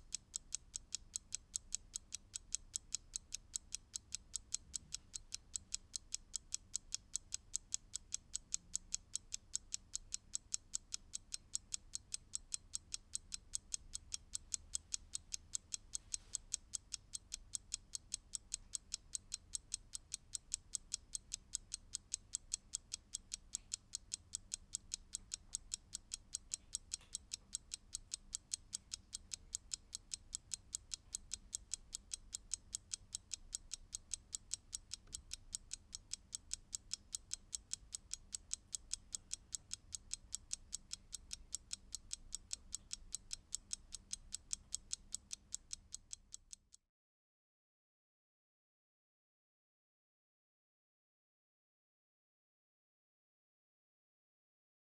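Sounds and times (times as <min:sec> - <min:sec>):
mechanical clock ticking: 0:00.0 - 0:46.8.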